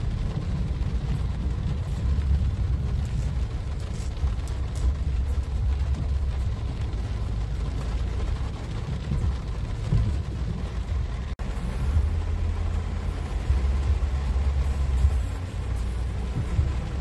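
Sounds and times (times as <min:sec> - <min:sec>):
car interior low rumble: 0:00.0 - 0:17.0.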